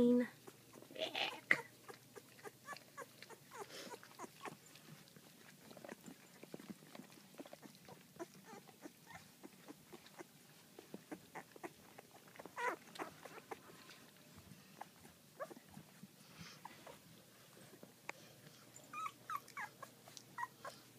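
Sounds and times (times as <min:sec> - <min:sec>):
puppies squeaking and whimpering: 0:00.4 - 0:10.4, 0:11.0 - 0:17.0, 0:18.6 - 0:20.9.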